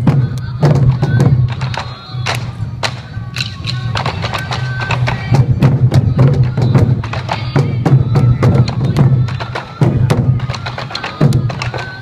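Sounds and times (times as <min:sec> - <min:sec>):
small drums beaten rapidly: 0:00.0 - 0:12.0.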